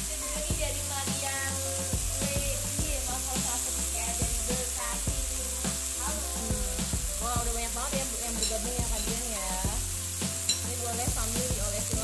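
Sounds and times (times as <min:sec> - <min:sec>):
background music with a beat: 0:00.0 - 0:12.0
chicken sizzling in a frying pan: 0:00.0 - 0:12.0.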